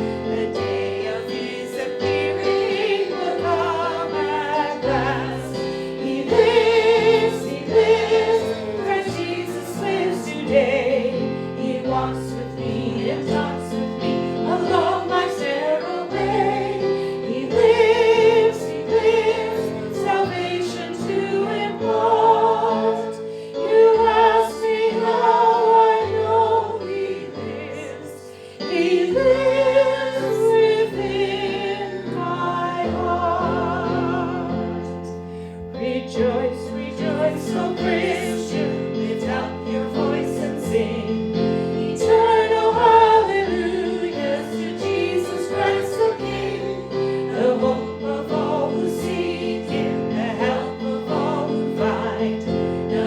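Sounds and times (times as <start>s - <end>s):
voices singing a hymn: 0.0s - 53.0s.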